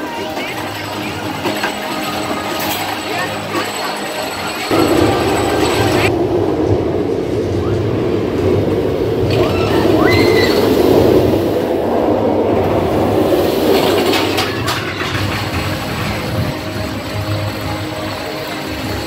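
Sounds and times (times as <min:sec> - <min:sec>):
roller coaster train rumbling: 0:00.0 - 0:19.0.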